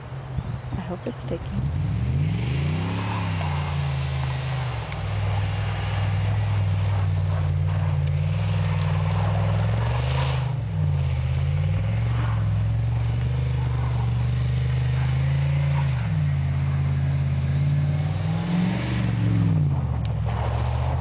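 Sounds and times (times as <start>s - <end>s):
car engine revving: 1.1s - 21.0s.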